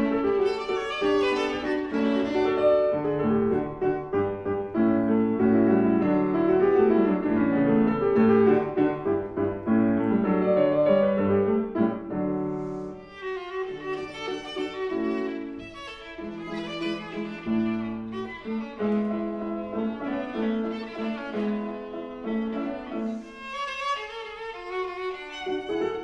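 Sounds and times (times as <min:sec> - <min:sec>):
piano playing: 0:00.0 - 0:26.0
viola: 0:00.0 - 0:26.0.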